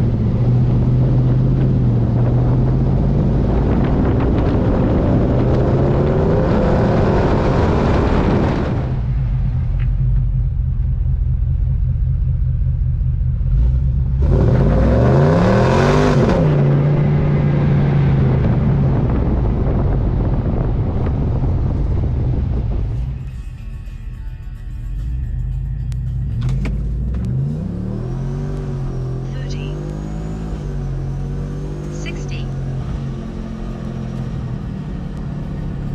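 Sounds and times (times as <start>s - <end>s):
truck engine revving and idling: 0.0s - 35.9s.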